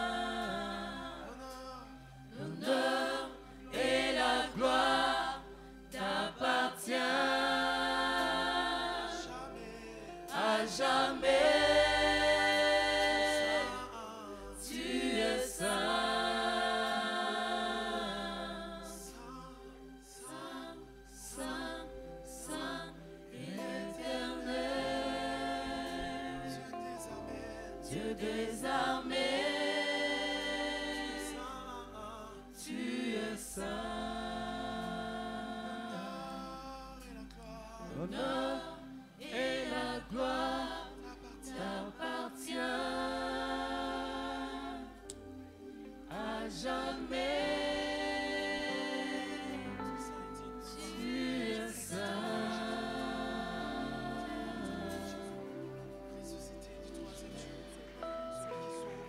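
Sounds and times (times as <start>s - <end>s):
group singing worship song: 0.0s - 59.0s.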